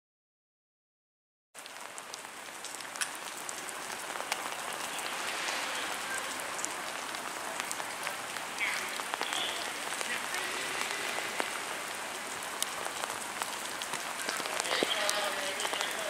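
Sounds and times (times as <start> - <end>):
sharp drips ticking: 1.6 - 16.0
steady rain falling: 1.6 - 16.0.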